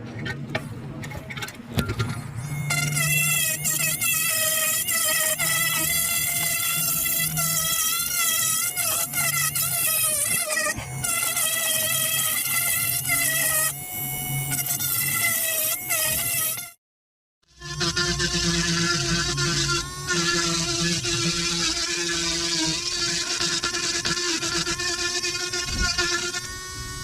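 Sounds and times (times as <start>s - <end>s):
rotary tool grinding whine: 2.0s - 16.8s, 17.5s - 27.0s.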